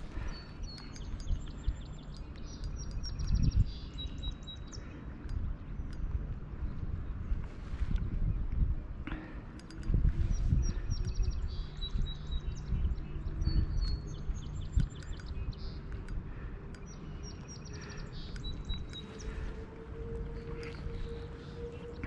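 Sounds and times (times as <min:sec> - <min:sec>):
low rumble: 0:00.0 - 0:22.0
small birds chirping and trilling: 0:00.0 - 0:22.0.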